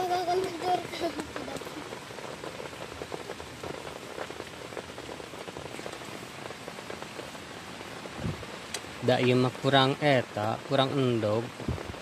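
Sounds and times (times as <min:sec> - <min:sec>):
heavy rain on a tent: 0:00.0 - 0:12.0.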